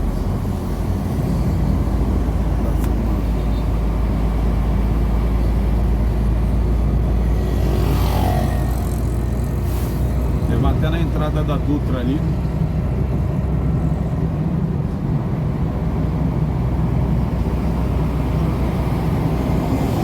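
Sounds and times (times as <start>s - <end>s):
road noise: 0.0s - 20.0s
truck engine droning: 0.0s - 20.0s.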